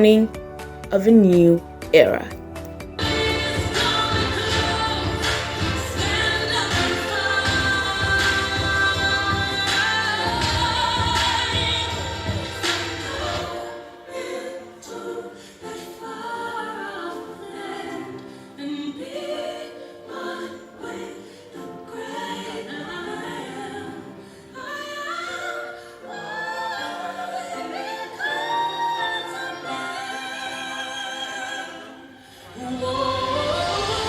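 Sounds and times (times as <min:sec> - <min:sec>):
background music: 0:00.0 - 0:34.0
choir singing: 0:03.0 - 0:34.0.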